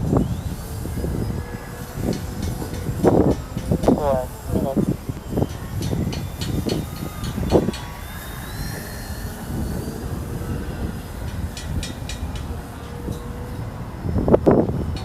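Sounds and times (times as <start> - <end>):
model aircraft motor whine: 0.0 - 15.0
wind rumbling on microphone: 0.0 - 15.0.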